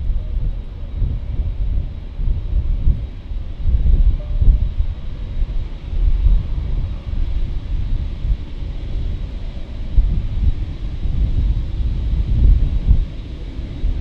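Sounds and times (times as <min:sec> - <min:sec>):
jet airliner rumble: 0:00.0 - 0:14.0
wind buffeting microphone: 0:00.0 - 0:14.0.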